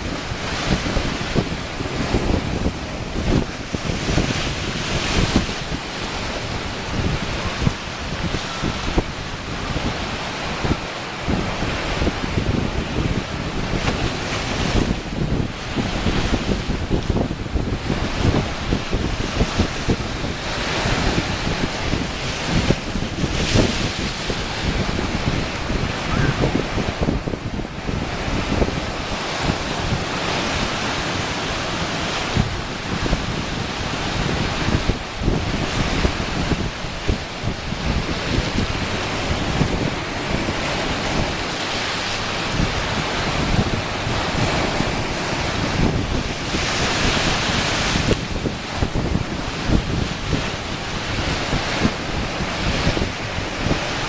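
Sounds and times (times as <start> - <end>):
waves washing against rocks: 0.0 - 54.0
wind buffeting microphone: 0.0 - 54.0.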